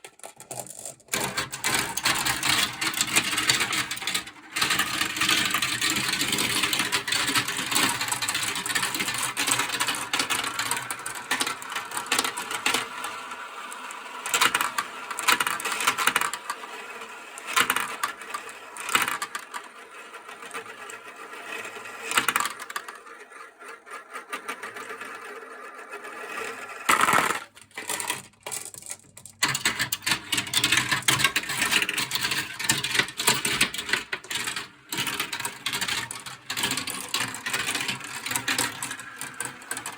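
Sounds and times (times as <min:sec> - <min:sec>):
marbles rattling down a marble run: 0:00.0 - 0:39.9.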